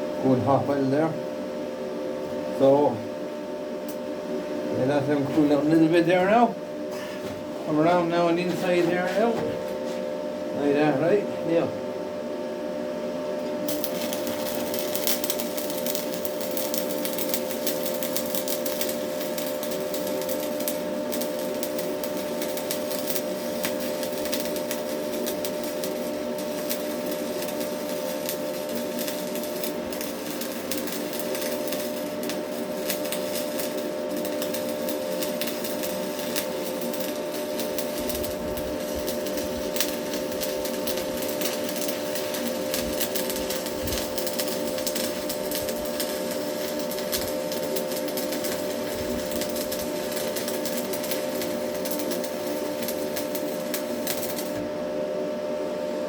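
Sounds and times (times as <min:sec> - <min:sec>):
constant hum: 0:00.0 - 0:55.5
welding arc crackling and sizzling: 0:03.8 - 0:06.6, 0:07.4 - 0:10.0, 0:13.4 - 0:54.7.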